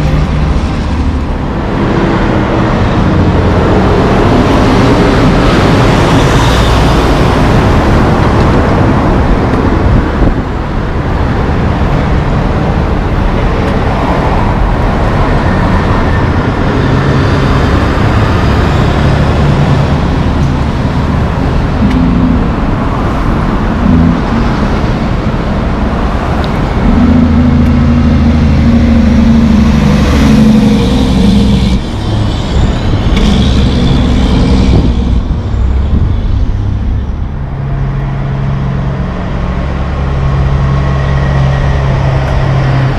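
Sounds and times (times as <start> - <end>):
cars and trucks passing: 0.0 - 42.9
engine rumble: 0.0 - 42.9
truck rolling by: 0.0 - 42.9.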